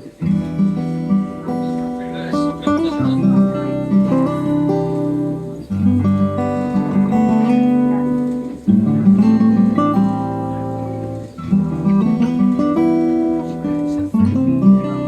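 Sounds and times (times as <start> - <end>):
strummed acoustic guitar chords: 0.0 - 15.0.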